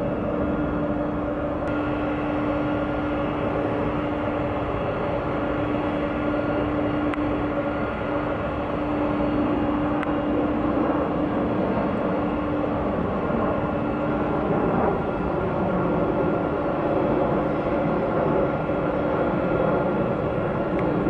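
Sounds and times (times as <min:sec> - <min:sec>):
jet airliner engines droning: 0:00.0 - 0:21.0.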